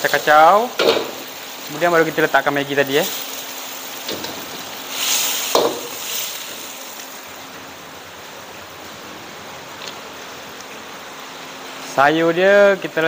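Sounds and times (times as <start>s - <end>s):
noodles sizzling in a wok: 0.0s - 11.9s.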